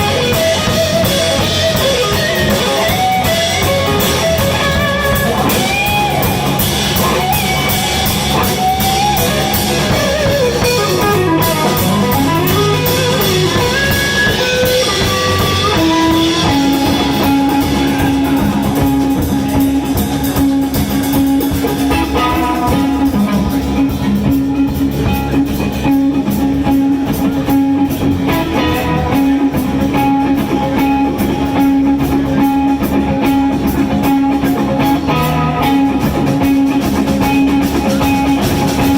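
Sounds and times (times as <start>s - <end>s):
bass guitar: 0.0s - 38.9s
drums: 0.0s - 38.9s
electric guitar lead: 0.0s - 38.9s.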